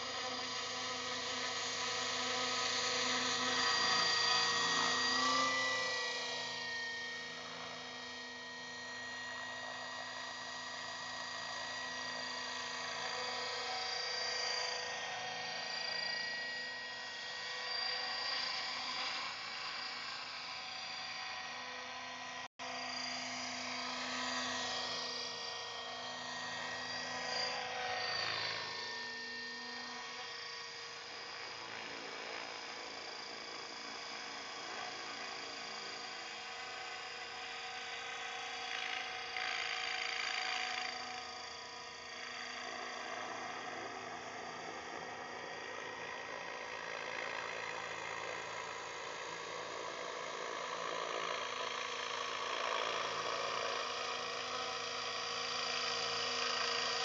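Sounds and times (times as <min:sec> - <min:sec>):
model helicopter whine: 0:00.0 - 0:57.0.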